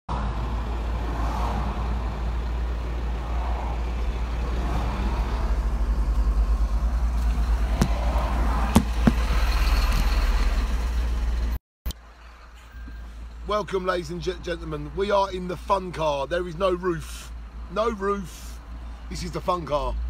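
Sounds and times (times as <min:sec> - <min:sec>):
road noise: 0:00.1 - 0:20.0
traffic rumble: 0:00.1 - 0:20.0.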